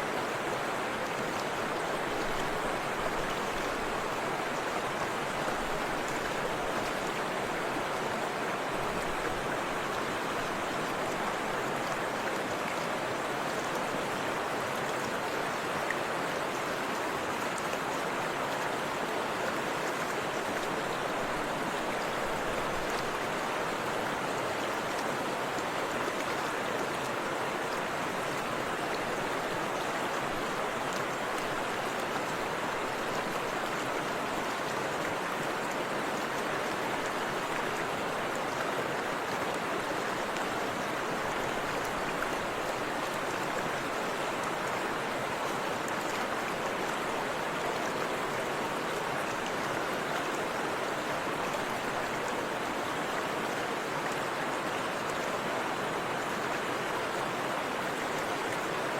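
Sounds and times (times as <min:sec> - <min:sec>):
river rushing over waterfall: 0:00.0 - 0:58.9.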